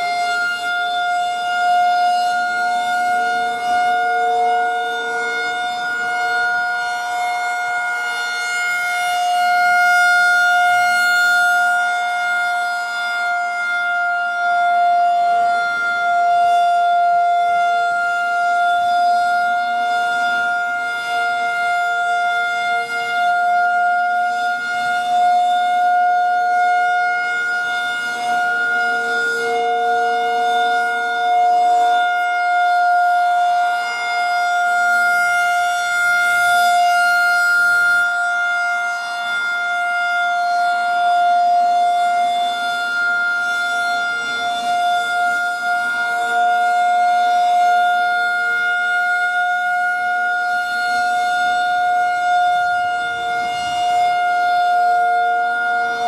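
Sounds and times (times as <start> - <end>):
rotating siren steady tone: 0.0 - 56.0.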